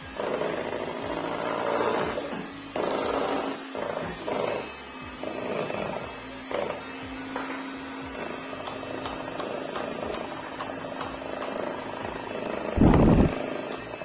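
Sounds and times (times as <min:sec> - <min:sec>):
electric hand mixer beating batter: 0:00.0 - 0:14.0.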